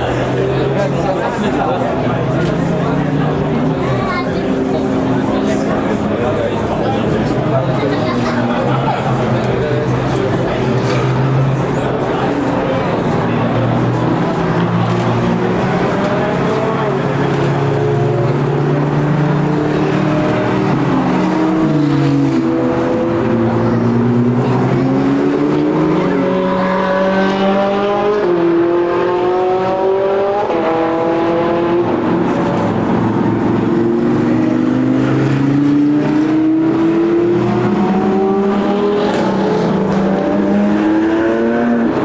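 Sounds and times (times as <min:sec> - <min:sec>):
supercar engines accelerating: 0:00.0 - 0:42.0.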